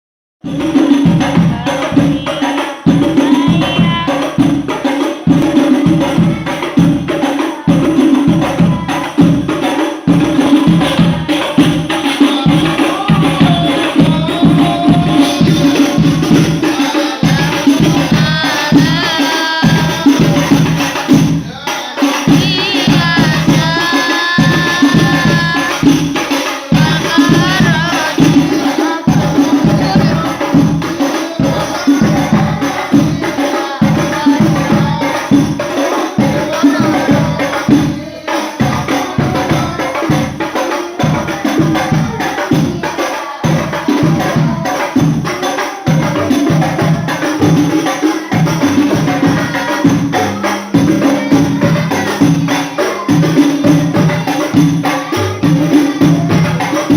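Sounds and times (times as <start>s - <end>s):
frame drum ensemble playing: 0.4s - 56.9s
person singing: 1.1s - 56.9s.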